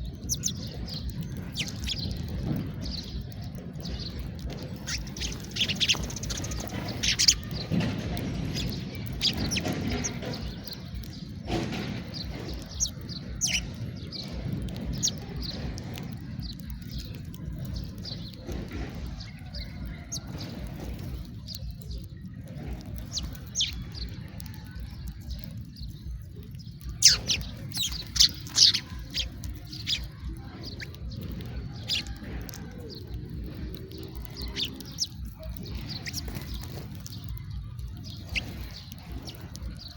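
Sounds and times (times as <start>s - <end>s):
low background rumble: 0.0s - 39.9s
sparrows chirping: 0.0s - 39.9s.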